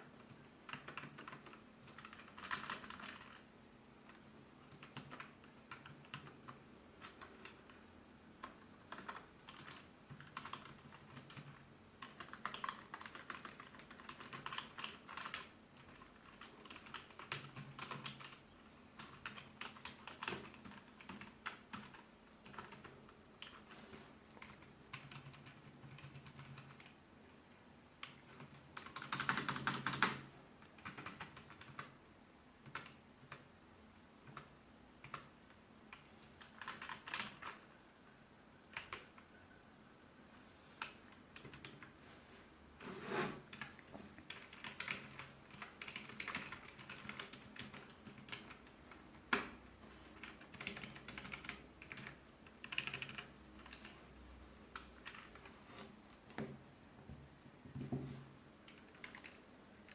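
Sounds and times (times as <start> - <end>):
keyboard typing: 0.0 - 27.0, 28.0 - 32.0, 32.6 - 33.5, 34.2 - 37.8, 38.6 - 39.4, 40.7 - 42.0, 43.4 - 56.6, 58.6 - 59.9.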